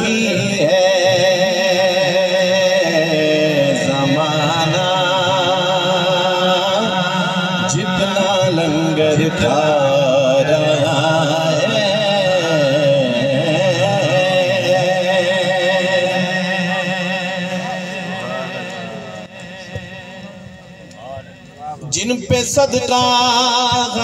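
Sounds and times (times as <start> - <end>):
men chanting through loudspeakers: 0.0 - 20.8
low drone: 0.0 - 21.6.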